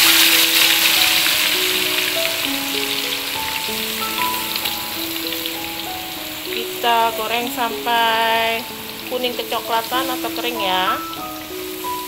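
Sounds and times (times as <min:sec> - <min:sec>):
food sizzling in hot oil: 0:00.0 - 0:12.0
simple background melody: 0:00.0 - 0:12.0.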